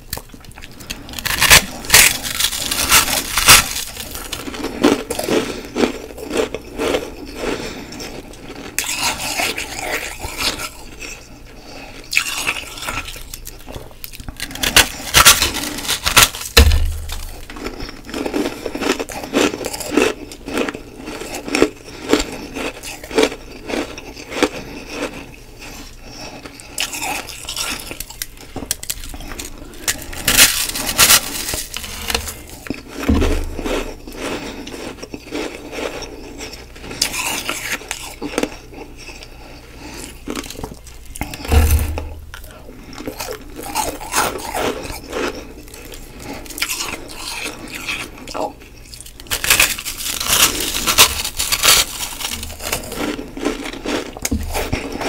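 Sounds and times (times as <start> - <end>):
crisp crunching bites: 0.1 - 7.5, 12.1 - 36.0, 39.8 - 55.0.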